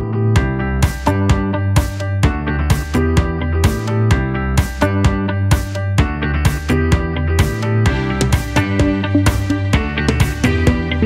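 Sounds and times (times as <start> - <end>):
instrumental music with percussive hits: 0.0 - 11.0.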